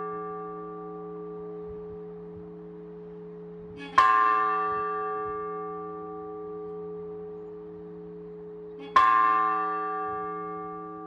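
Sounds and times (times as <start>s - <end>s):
church bell clanging: 0.0s - 11.0s.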